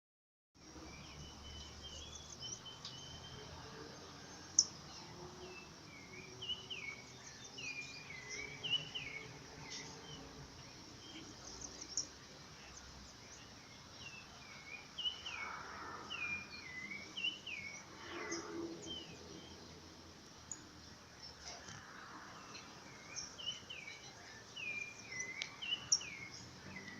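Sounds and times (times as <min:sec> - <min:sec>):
birds chirping: 0:00.6 - 0:26.9.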